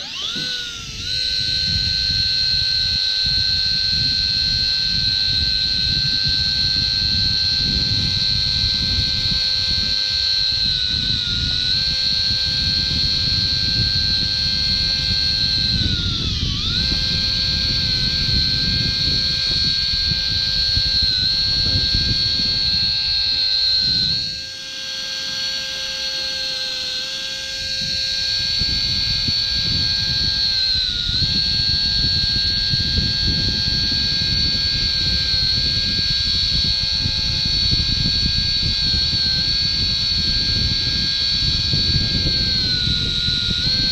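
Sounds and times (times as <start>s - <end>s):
electric reel motor whining: 0.0s - 43.9s
low rumbling noise: 0.0s - 43.9s.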